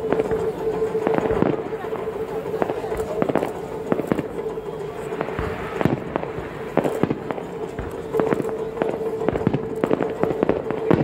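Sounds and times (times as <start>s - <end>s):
fireworks bangs: 0.0s - 11.0s
steady high tone: 0.0s - 11.0s.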